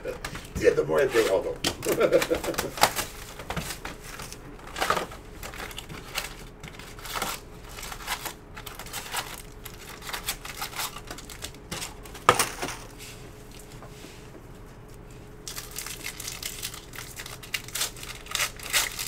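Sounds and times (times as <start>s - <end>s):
cardboard and foil rustling: 0.0s - 13.8s, 15.4s - 19.0s.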